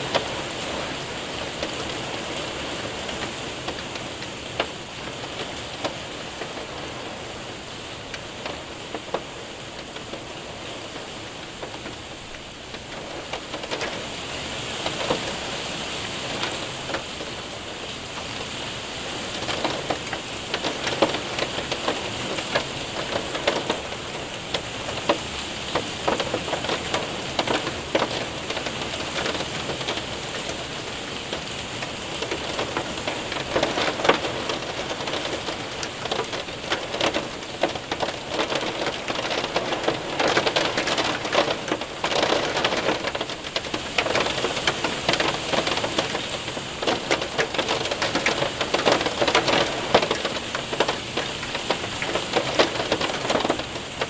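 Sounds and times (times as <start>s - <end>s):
hailstones ticking: 0.0s - 54.0s
heavy rain on window and roof: 0.0s - 54.0s.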